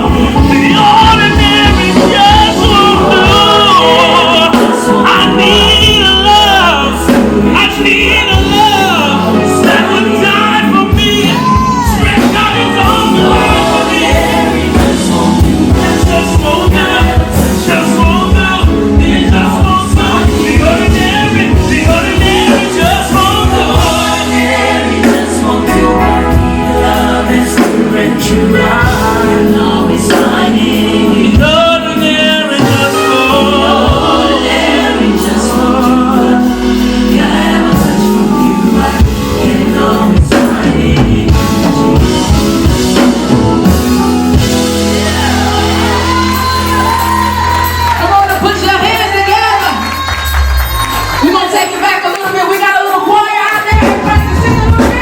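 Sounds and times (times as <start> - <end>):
gospel band with singing: 0.0 - 55.0.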